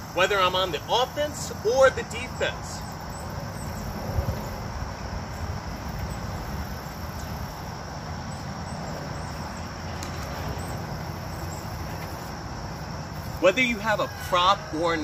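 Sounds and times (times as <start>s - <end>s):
faint insects chirring: 0.0s - 15.0s.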